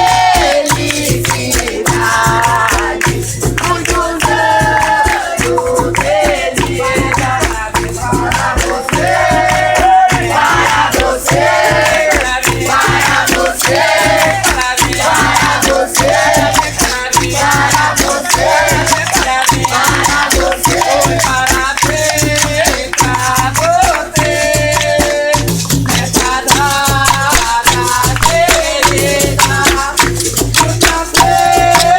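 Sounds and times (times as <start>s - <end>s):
berimbau: 0.0s - 31.9s
group singing: 0.0s - 31.9s
hand-clapping: 0.0s - 31.9s
shaker rattling: 0.0s - 31.9s.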